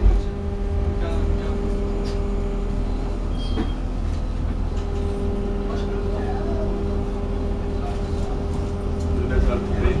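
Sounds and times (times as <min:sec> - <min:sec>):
tram wheels rumbling on track: 0:00.0 - 0:10.0.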